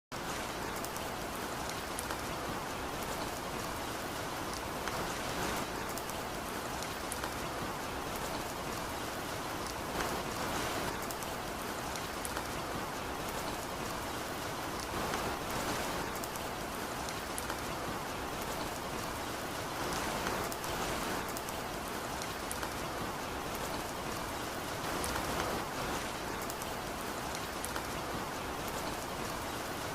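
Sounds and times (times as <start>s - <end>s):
rain falling on a surface: 0.1s - 29.9s.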